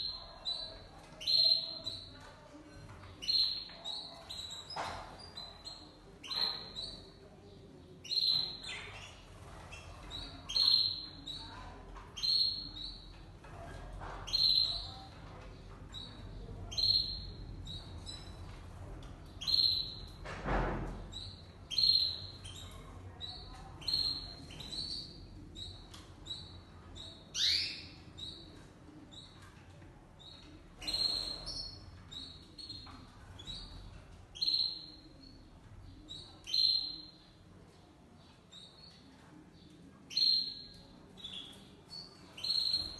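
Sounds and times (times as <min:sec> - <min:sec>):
canaries chirping: 0:00.0 - 0:42.9.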